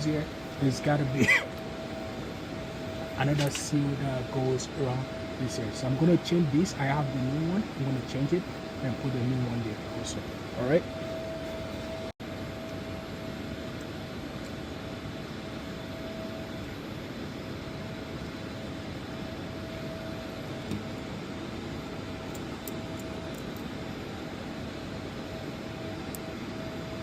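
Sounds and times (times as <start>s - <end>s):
faint constant tone: 0.0s - 27.0s
mechanical drone and hiss: 0.0s - 27.0s.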